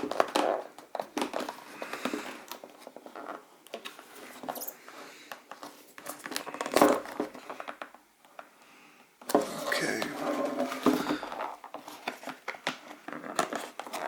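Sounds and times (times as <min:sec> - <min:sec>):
packaging rustling and crinkling: 0:00.0 - 0:04.7, 0:05.4 - 0:08.0, 0:09.9 - 0:14.0.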